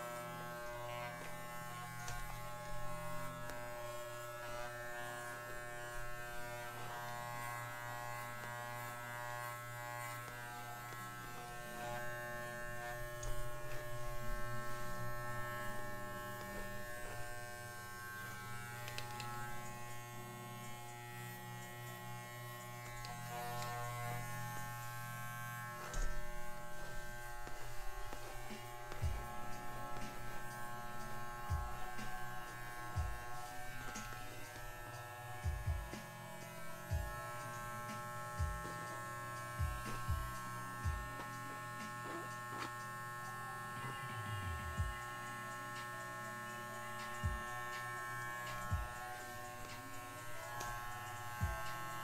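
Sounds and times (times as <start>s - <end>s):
electric clippers buzzing: 0.0s - 52.0s.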